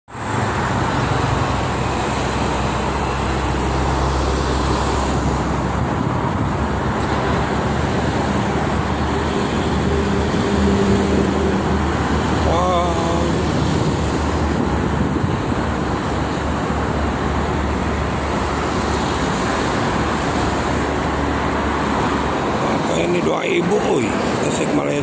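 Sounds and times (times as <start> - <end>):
heavy engines rumbling: 0.1 - 25.0
truck engine drone: 0.1 - 25.0.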